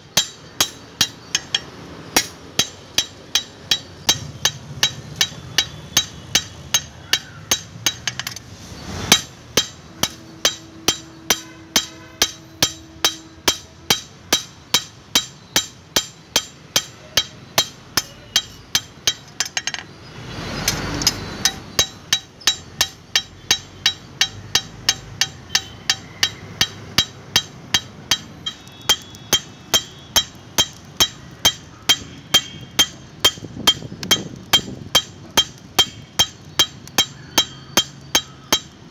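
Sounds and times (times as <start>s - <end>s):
hammer striking metal blade: 0.1s - 8.4s, 9.1s - 19.8s, 20.7s - 38.8s.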